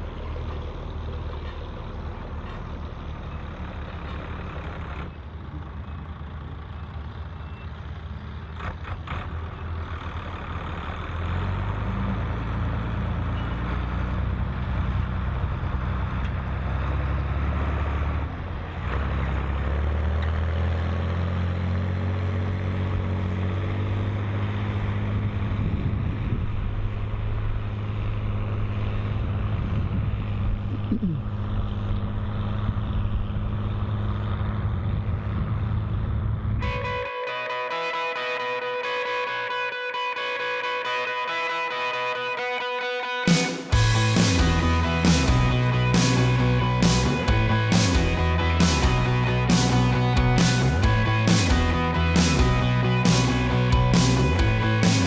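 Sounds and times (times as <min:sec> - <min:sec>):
tractor diesel engine under load: 0:00.0 - 0:37.0, 0:43.7 - 0:55.0.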